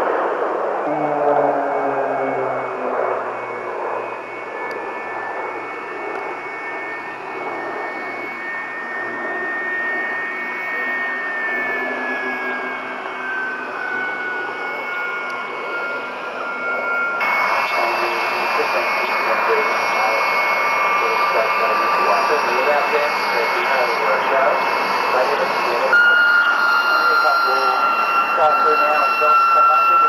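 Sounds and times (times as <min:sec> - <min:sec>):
aircraft engine noise: 0:00.0 - 0:30.0
thin whine dropping in pitch: 0:00.0 - 0:30.0.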